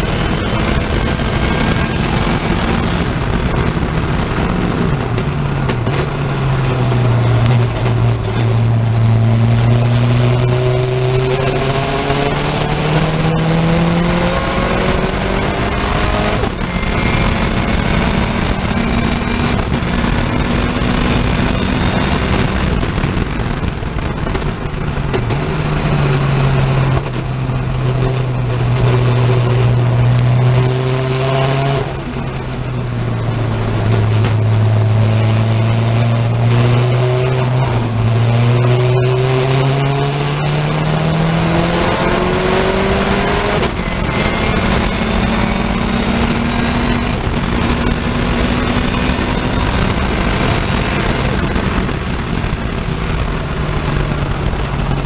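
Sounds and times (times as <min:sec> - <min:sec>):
racing car engine: 0:00.0 - 0:55.0
rising whine: 0:00.0 - 0:55.0.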